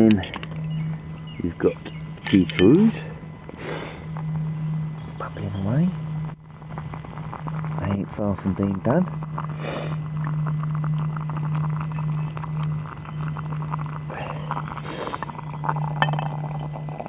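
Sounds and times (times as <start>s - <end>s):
water boiling with small pops: 0.0s - 4.6s, 6.2s - 17.0s
steady low hum: 0.0s - 17.0s.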